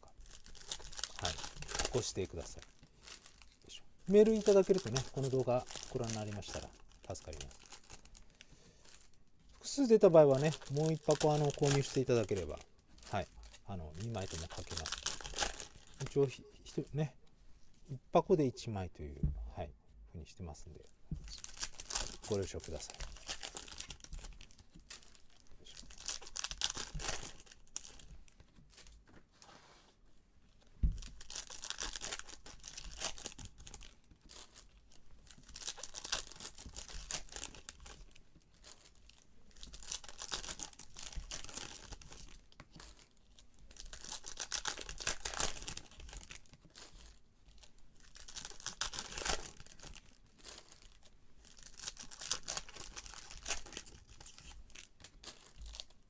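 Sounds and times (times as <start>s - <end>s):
foil wrapper crinkling: 0.0s - 17.1s, 20.7s - 29.4s, 30.8s - 56.0s.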